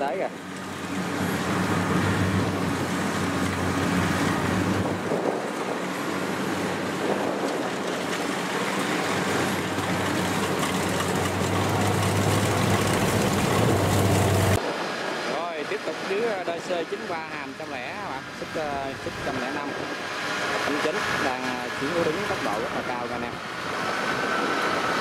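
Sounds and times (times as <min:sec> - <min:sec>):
combine harvester diesel engines: 0:00.0 - 0:25.0.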